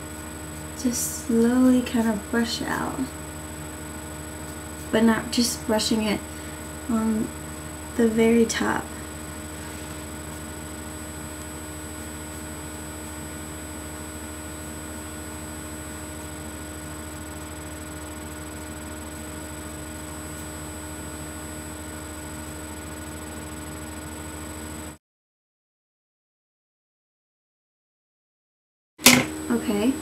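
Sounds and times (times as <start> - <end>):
electrical mains hum: 0.0 - 25.0, 29.0 - 30.0
thin high whine: 0.0 - 25.0, 29.0 - 30.0.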